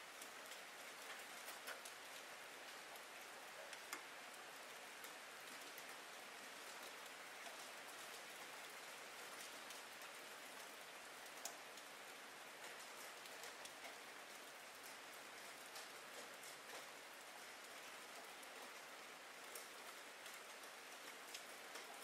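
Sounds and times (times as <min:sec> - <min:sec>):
faint steady rain: 0:00.0 - 0:22.0
raindrops ticking: 0:00.1 - 0:22.0.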